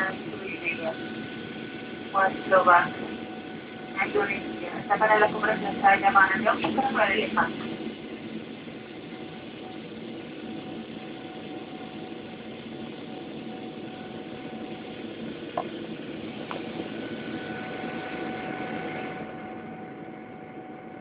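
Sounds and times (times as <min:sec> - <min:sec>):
airplane cabin roar: 0:00.0 - 0:21.0
faint engine whine: 0:00.0 - 0:21.0.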